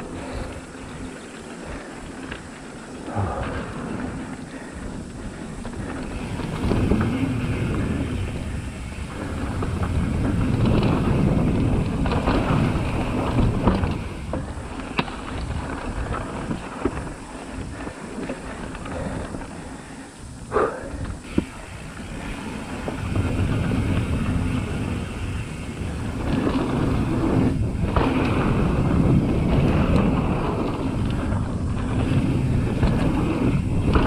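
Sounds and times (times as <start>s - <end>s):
bike knocking and rattling: 0.0s - 34.0s
tyres rolling on dirt: 0.0s - 34.0s
wind rushing over microphone: 0.0s - 34.0s.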